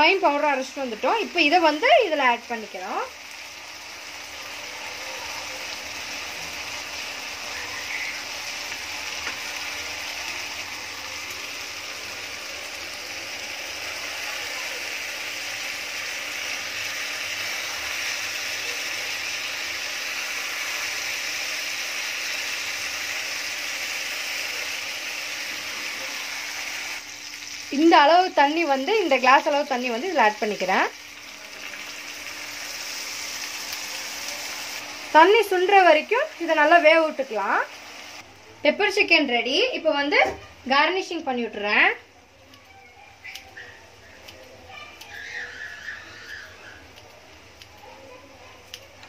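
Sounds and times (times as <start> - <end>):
food sizzling in frying pan: 0.0 - 49.0.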